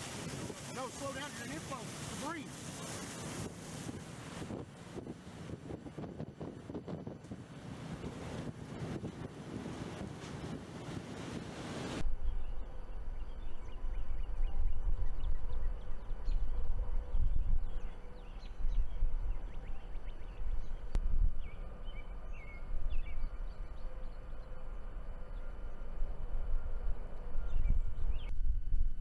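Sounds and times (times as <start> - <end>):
low wind rumble: 0.0 - 29.0
wind buffeting microphone: 0.0 - 29.0.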